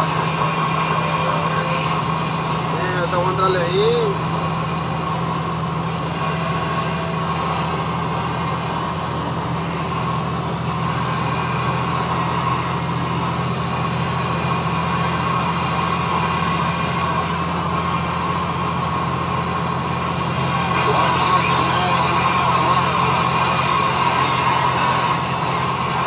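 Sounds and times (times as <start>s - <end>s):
vehicle engine and road drone: 0.0s - 26.0s.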